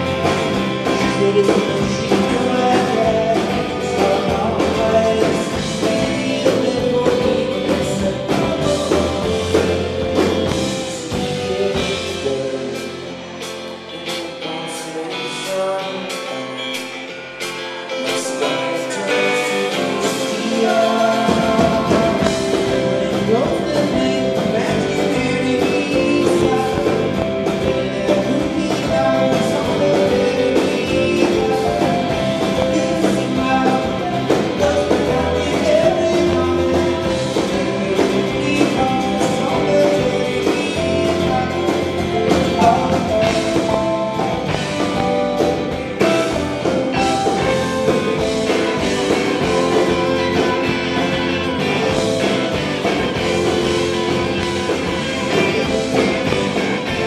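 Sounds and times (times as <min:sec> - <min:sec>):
man singing: 0:00.0 - 0:17.1, 0:17.7 - 0:57.0
acoustic guitar: 0:00.0 - 0:57.0
rock band playing: 0:00.0 - 0:57.0.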